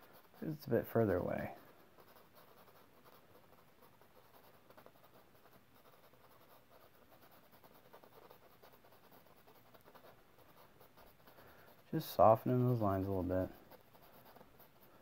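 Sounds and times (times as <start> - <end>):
paintbrush scratching on canvas: 0.0 - 15.0.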